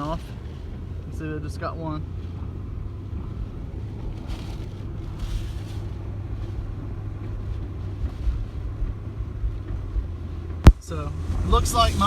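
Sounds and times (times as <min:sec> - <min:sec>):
car road and engine hum: 0:00.0 - 0:12.0
storm wind rushing against car: 0:00.0 - 0:12.0.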